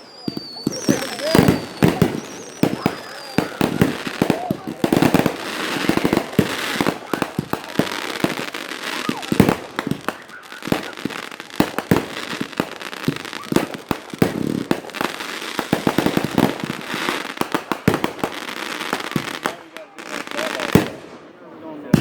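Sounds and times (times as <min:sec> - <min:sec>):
fireworks banging and crackling: 0:00.0 - 0:22.0.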